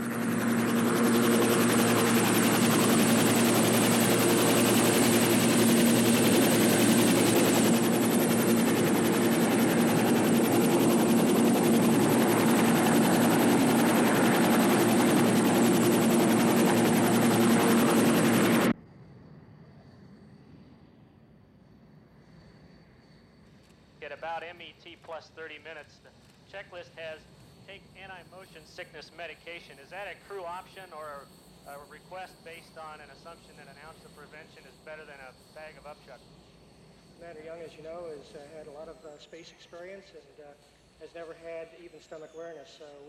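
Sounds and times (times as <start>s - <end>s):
helicopter hovering: 0.0s - 18.8s, 24.0s - 43.0s.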